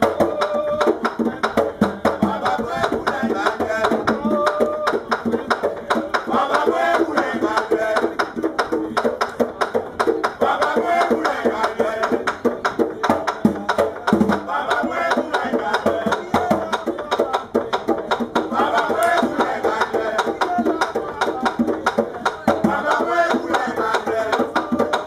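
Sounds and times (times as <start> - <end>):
hand drum playing fast rhythm: 0.0 - 25.0
voices singing: 0.0 - 25.0.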